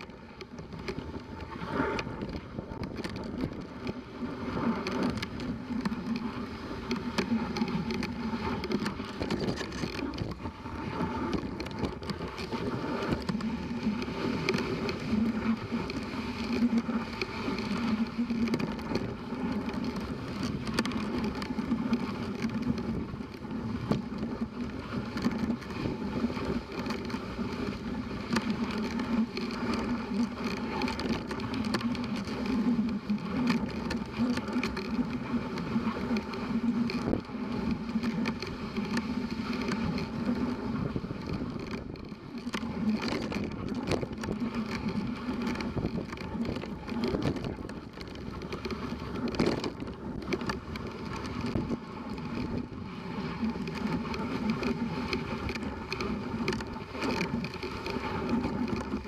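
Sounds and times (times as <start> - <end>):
sled clicking and knocking: 0.0 - 59.0
sled runners scraping on snow: 0.0 - 59.0.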